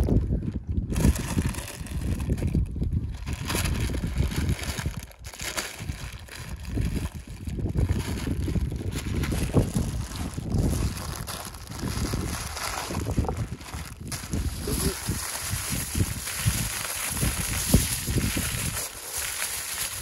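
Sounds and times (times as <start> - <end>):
wind rumble on microphone: 0.0 - 20.0
paper crinkling and rustling: 1.0 - 20.0.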